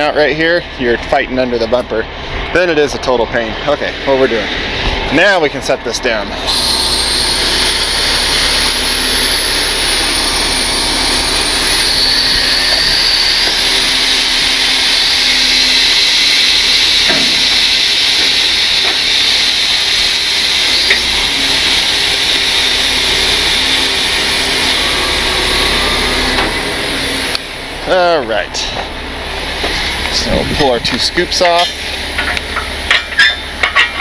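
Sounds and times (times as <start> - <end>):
hydraulic hiss and whine: 0.0 - 34.0
truck engine running: 0.0 - 34.0.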